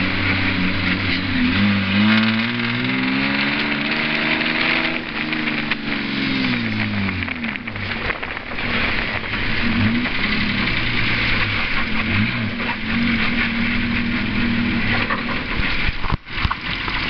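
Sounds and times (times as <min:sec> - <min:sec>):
steady rushing noise: 0:00.0 - 0:17.0
vehicle engine revving: 0:00.0 - 0:17.0.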